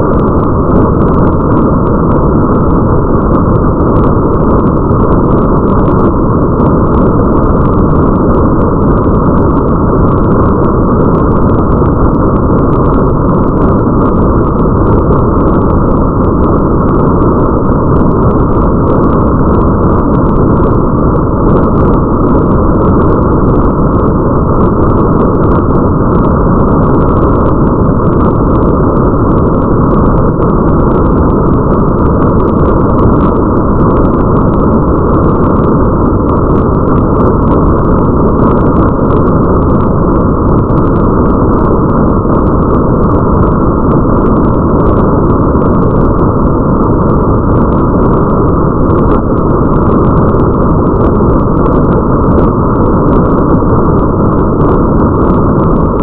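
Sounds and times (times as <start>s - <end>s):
faint ticks of raindrops: 0.0s - 56.0s
muffled rain: 0.0s - 56.0s.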